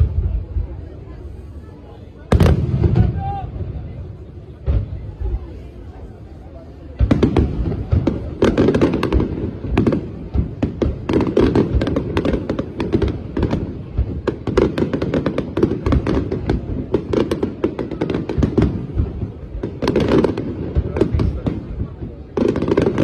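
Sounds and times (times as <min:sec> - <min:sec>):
crackling firework stars: 0:00.0 - 0:23.0
low rumble of explosions: 0:00.0 - 0:23.0.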